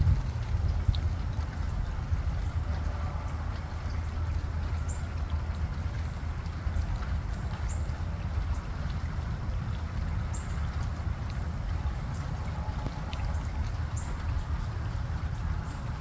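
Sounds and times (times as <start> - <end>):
light rain on water: 0.0 - 16.0
steady low rumble: 0.0 - 16.0.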